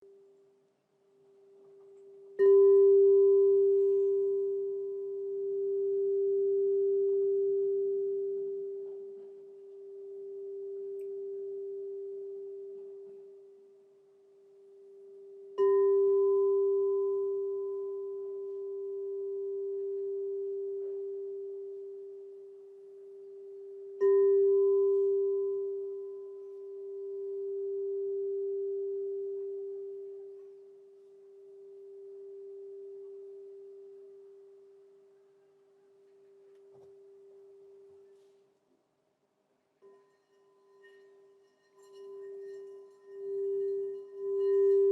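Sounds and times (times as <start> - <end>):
crystal singing bowl ringing: 1.8 - 35.0, 39.8 - 44.9.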